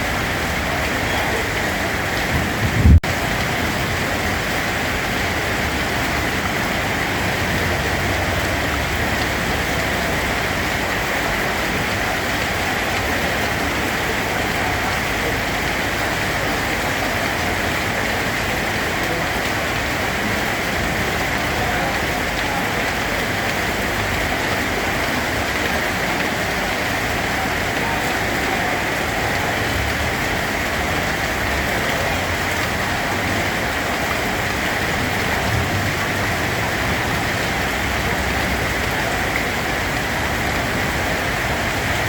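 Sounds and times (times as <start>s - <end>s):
heavy rainfall: 0.0s - 42.0s.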